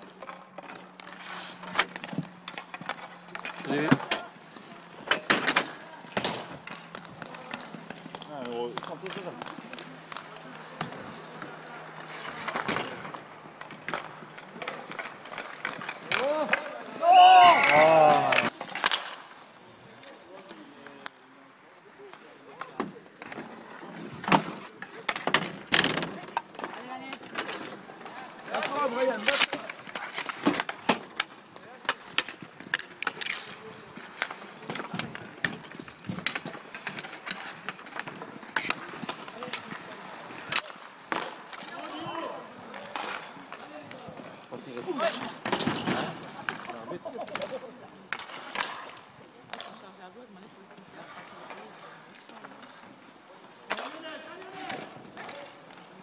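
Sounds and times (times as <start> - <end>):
hockey sticks clacking: 0.0 - 56.0
skate wheels rolling: 0.0 - 56.0.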